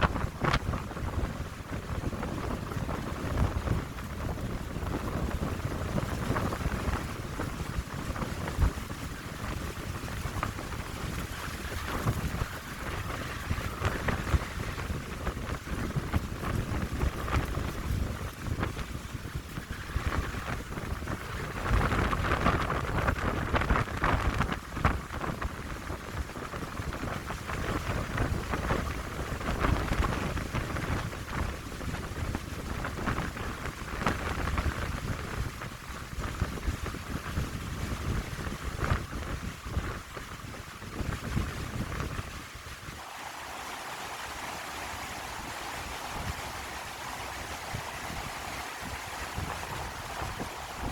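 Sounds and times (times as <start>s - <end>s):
wind buffeting microphone: 0.0s - 50.9s
wind hissing through pine needles: 0.0s - 50.9s.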